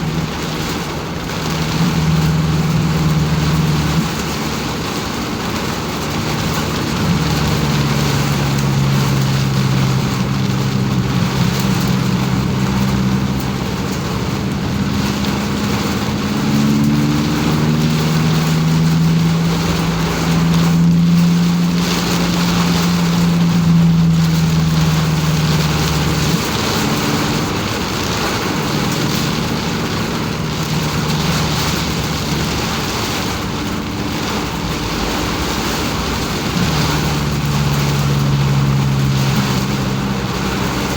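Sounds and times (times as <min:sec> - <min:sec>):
car engine droning: 0:00.0 - 0:40.9
rain hissing: 0:00.0 - 0:40.9
tyres on wet road: 0:00.0 - 0:40.9.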